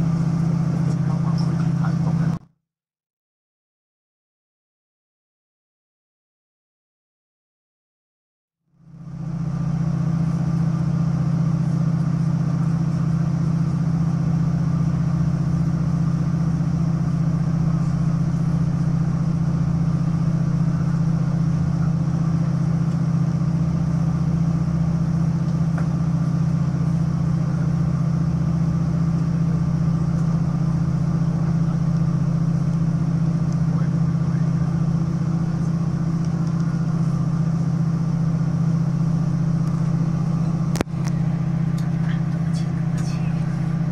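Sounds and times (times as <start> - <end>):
train engine low drone: 0.0 - 2.5, 8.7 - 43.9.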